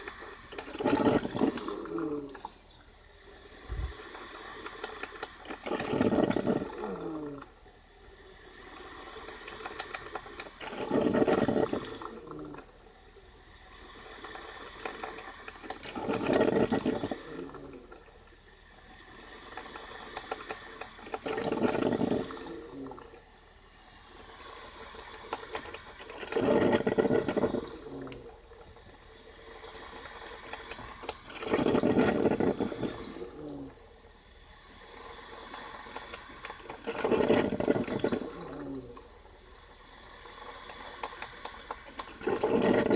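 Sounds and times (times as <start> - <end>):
coffee maker gurgling and hissing: 0.0 - 42.9.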